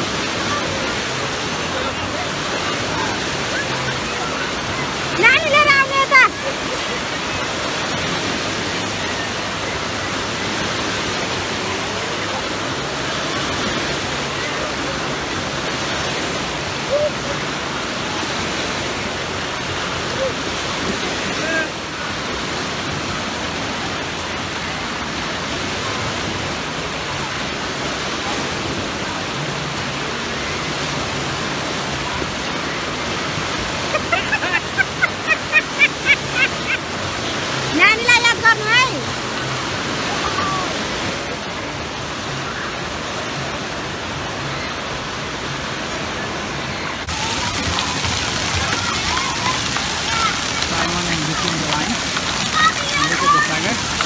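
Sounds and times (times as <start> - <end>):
waves breaking in a pool: 0.0 - 54.0.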